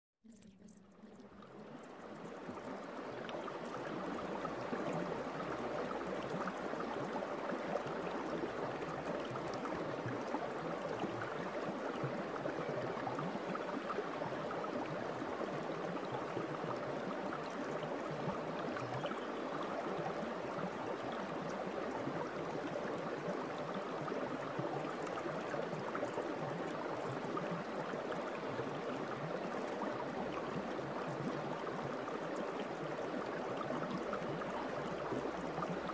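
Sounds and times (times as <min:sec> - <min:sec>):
running water: 0:00.2 - 0:35.9.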